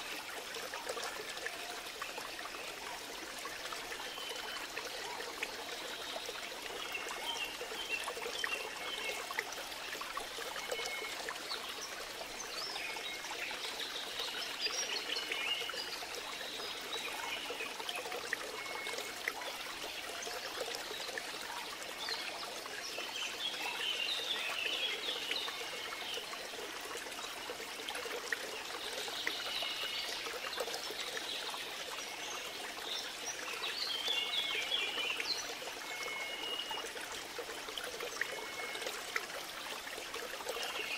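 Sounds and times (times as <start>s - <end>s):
trickling stream: 0.0s - 40.9s.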